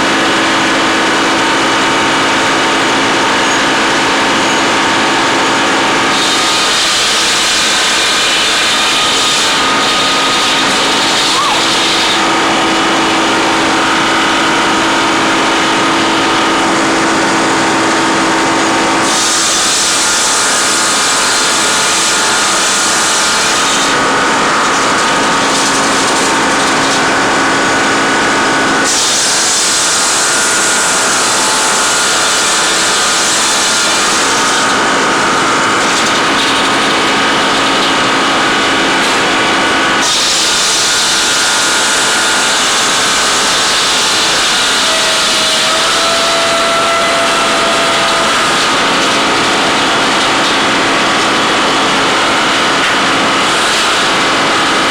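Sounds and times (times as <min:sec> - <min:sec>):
saw cutting through wood: 0:00.0 - 0:54.9
tree-cutting machinery engine: 0:00.0 - 0:54.9.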